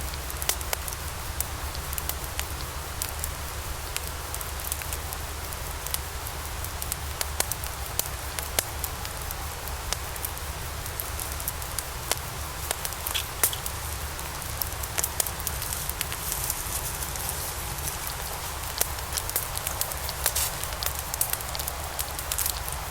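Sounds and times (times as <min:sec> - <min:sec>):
log fire crackling and popping: 0:00.0 - 0:22.9.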